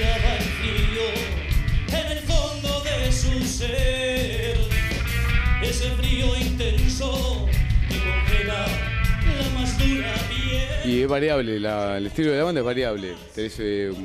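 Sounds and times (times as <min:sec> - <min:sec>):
drum beat: 0:00.0 - 0:11.5
distorted electric guitars: 0:00.0 - 0:11.6
bass guitar: 0:00.0 - 0:11.7
man singing: 0:00.0 - 0:14.0.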